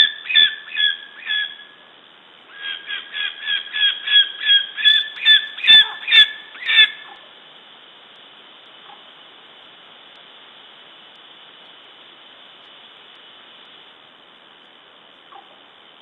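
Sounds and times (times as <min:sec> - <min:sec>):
microphone static hiss: 0:00.0 - 0:16.0.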